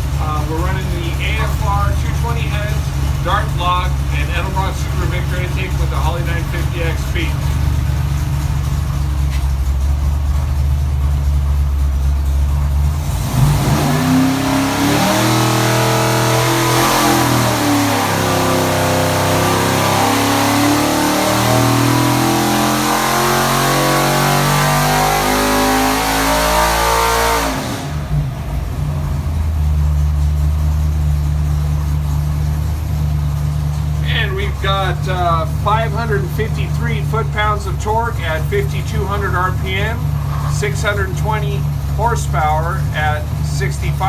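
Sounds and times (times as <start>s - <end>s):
car engine revving on dyno: 0.0s - 44.0s.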